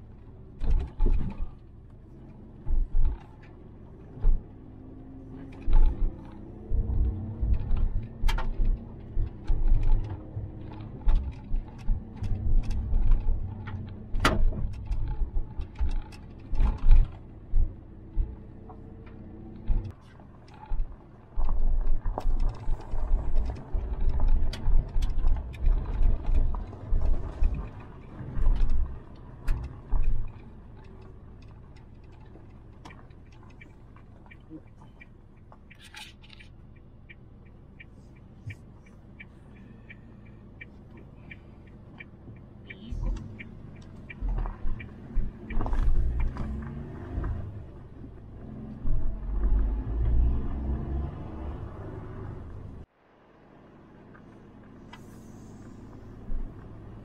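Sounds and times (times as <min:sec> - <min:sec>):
tyres rumbling on gravel: 0:00.0 - 0:36.6, 0:42.8 - 0:52.9
turn signal ticking: 0:00.6 - 0:52.9.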